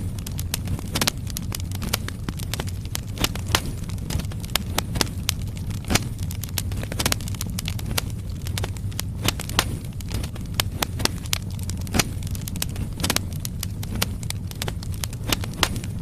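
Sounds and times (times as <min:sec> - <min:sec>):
fire low rumble: 0:00.0 - 0:16.0
wood crackling and popping: 0:00.0 - 0:16.0.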